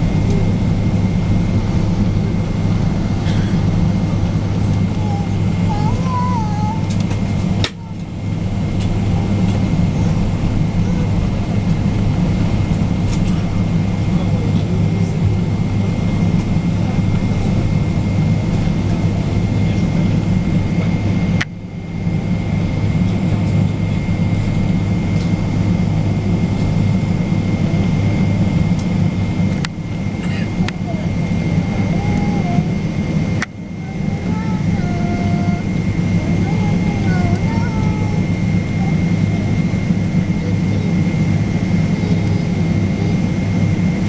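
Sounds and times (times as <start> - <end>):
airplane cabin engine drone: 0.0 - 44.0.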